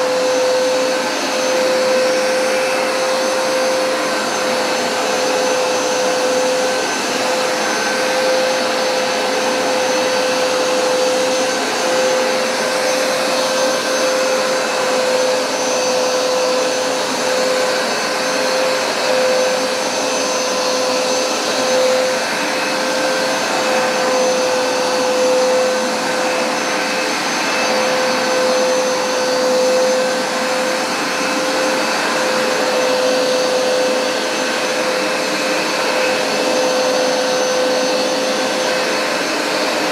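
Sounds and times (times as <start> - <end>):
carpet cleaner motor whine: 0.0 - 39.9.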